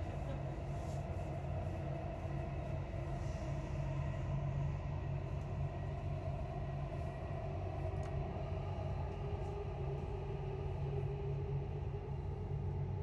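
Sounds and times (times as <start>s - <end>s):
train rumbling in tunnel: 0.0s - 13.0s.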